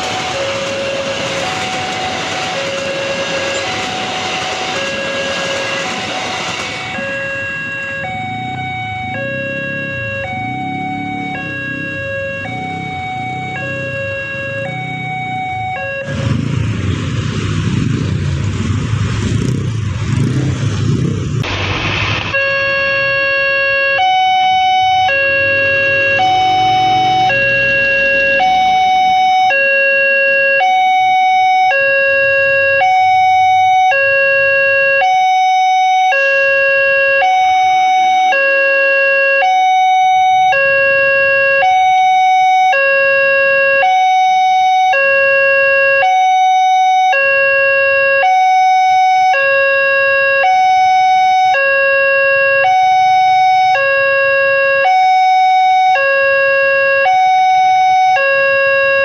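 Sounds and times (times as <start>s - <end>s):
level crossing two-tone alarm: 0.0s - 16.4s, 22.3s - 59.0s.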